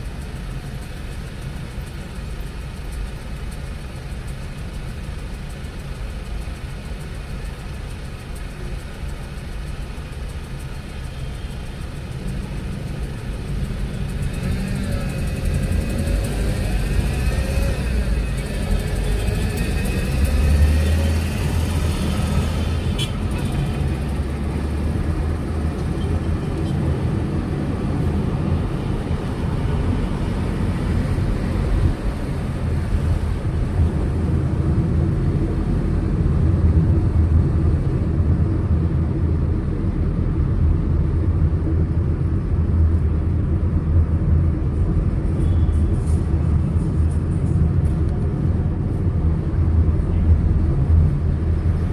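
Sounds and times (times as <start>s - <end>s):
car engine and tyre rumble: 0.0s - 51.9s.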